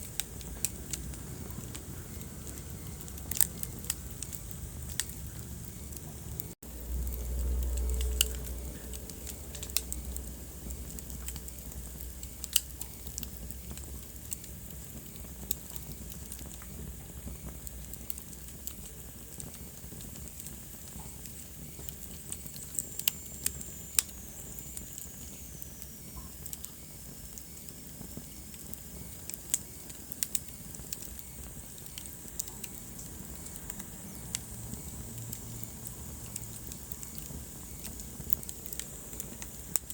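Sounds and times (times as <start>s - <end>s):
low hiss and rumble: 0.0s - 39.9s
wood fire crackling and popping: 0.0s - 39.9s.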